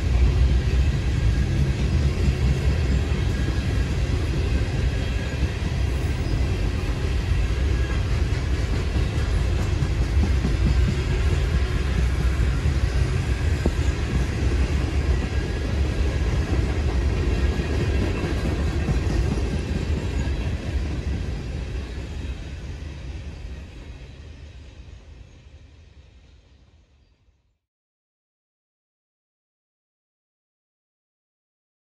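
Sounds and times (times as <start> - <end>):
freight train rumbling by: 0.0 - 27.0.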